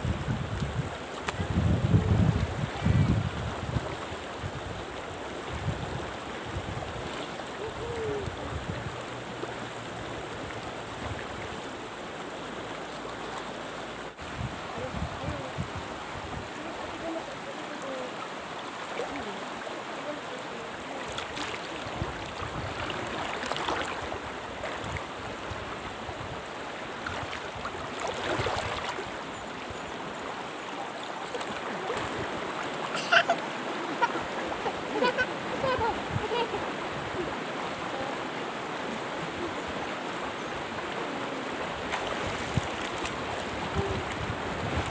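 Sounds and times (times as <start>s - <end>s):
water rushing over rocks: 0.0s - 44.9s.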